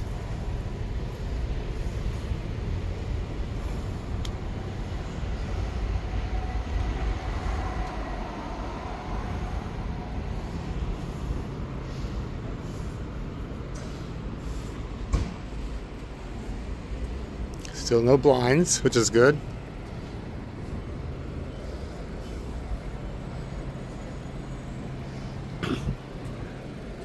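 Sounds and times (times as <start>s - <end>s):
street traffic noise: 0.0s - 27.0s
vehicle passing: 0.0s - 27.0s.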